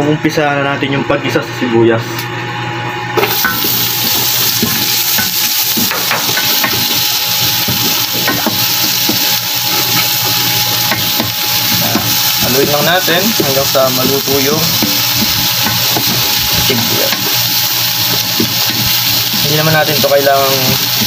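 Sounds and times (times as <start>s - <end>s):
onions sizzling in oil: 3.2s - 21.0s
utensil stirring in pan: 3.3s - 21.0s.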